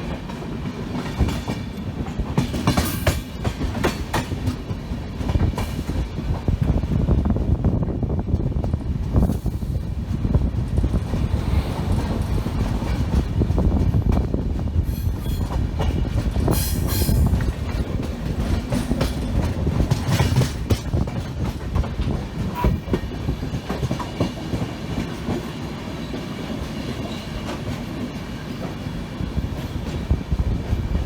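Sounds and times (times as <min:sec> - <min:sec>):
train wheels clacking on rails: 0:00.0 - 0:07.4, 0:08.2 - 0:31.0.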